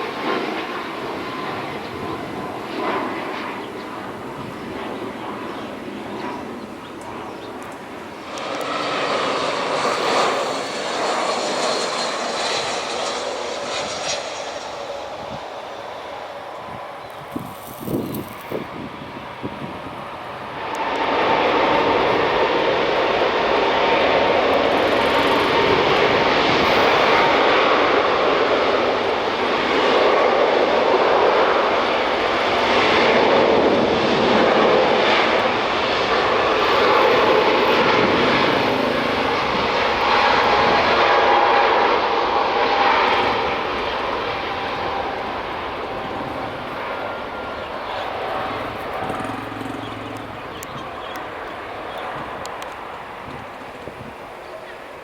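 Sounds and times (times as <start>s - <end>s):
jet engines roaring at takeoff: 0.0s - 55.0s.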